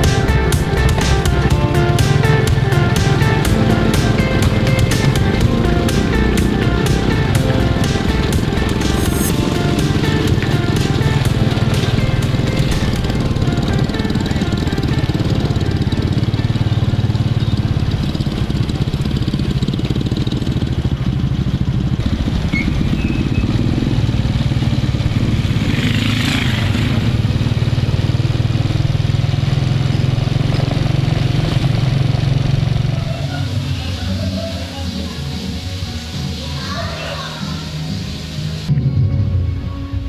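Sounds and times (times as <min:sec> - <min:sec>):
motorcycle engine running: 0:00.0 - 0:34.8.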